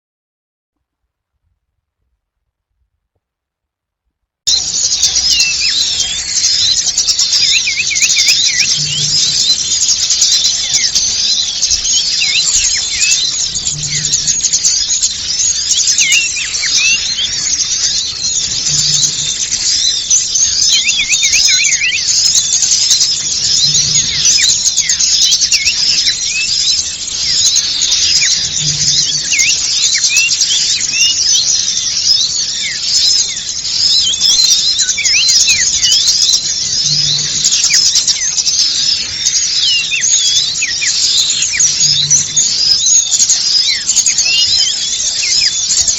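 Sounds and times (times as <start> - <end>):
songbirds chirping chorus: 4.5 - 45.9.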